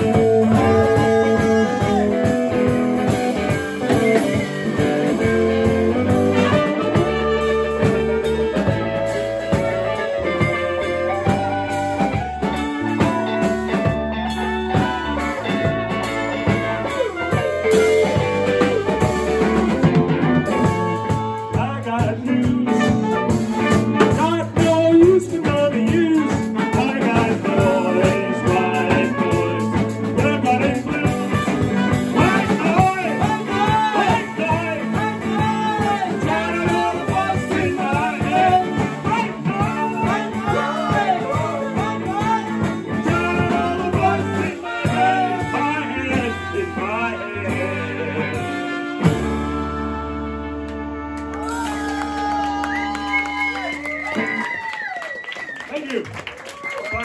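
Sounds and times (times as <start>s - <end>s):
trumpet melody: 0.0s - 54.5s
alto saxophone melody: 0.0s - 54.7s
live rock band playing: 0.0s - 57.0s.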